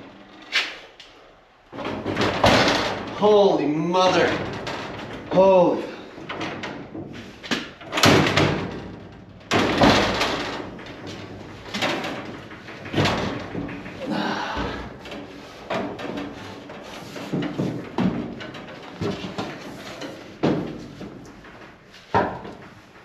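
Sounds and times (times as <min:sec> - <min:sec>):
heavy metal bangs and thuds: 0:01.6 - 0:23.0.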